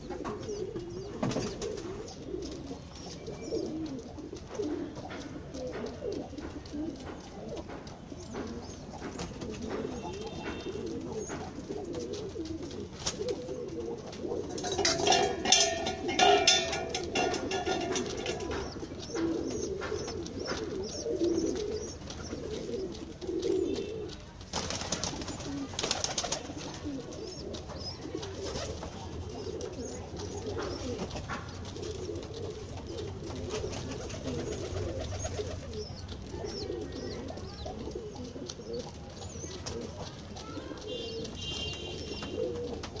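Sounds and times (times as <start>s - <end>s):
high-pitched pigeon call: 0.0s - 43.0s
pigeons cooing: 0.0s - 43.0s
rustling noise: 1.4s - 37.0s.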